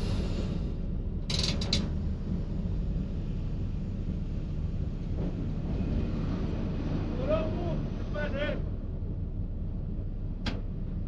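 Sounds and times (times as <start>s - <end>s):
train running at speed: 0.0s - 11.0s.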